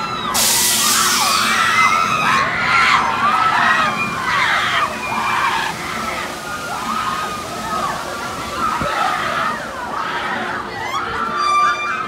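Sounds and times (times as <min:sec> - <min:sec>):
crowd of riders screaming: 0:00.0 - 0:12.0.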